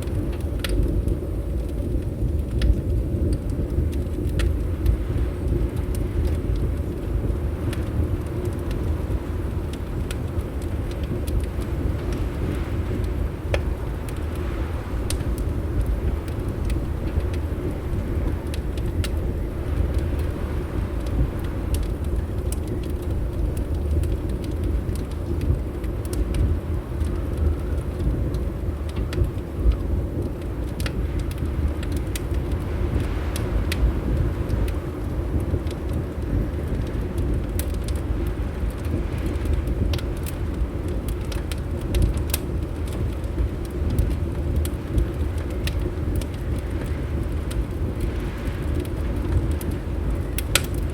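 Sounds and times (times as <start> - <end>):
wind rumble: 0.0 - 50.9
wood fire crackling: 0.0 - 50.9.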